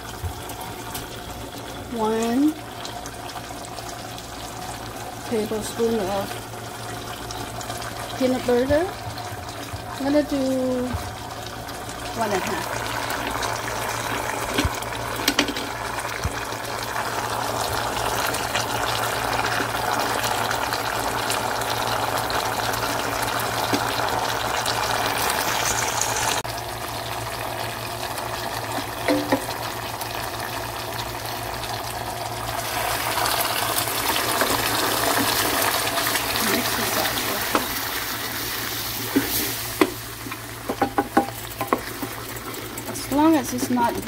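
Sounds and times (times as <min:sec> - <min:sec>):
sauce bubbling and sizzling: 0:00.0 - 0:44.0.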